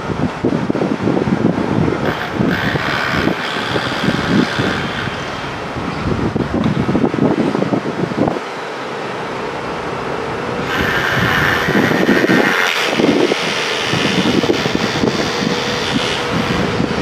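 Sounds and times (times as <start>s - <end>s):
wind buffeting microphone: 0.0s - 8.6s, 10.2s - 17.0s.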